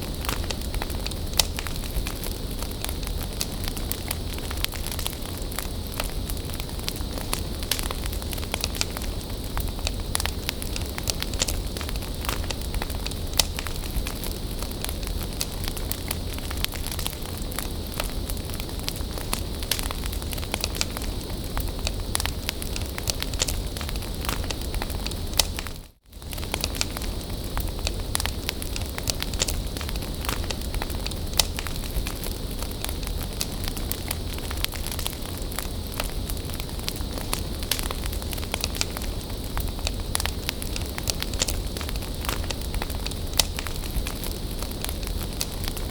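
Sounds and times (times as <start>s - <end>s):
bonfire crackling and popping: 0.0s - 45.9s.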